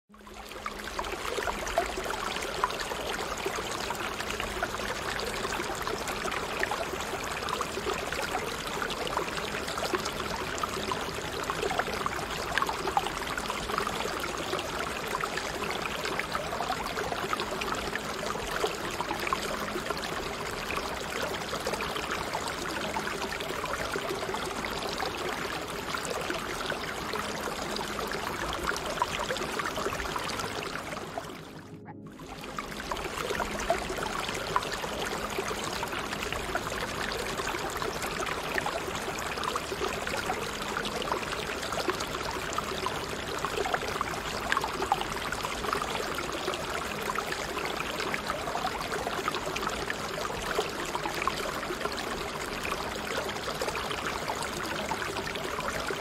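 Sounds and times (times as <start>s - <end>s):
babbling stream: 0.1s - 56.0s
faint low tone: 0.2s - 45.1s.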